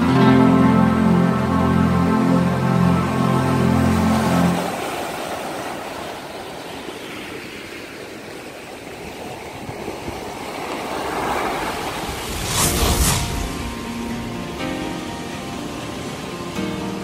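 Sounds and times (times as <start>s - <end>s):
waves breaking on a sandy beach: 0.0s - 17.0s.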